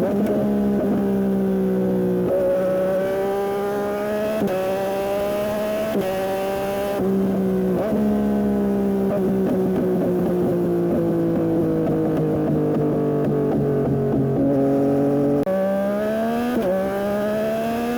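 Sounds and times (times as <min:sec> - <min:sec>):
motorcycle engine while riding: 0:00.0 - 0:17.9.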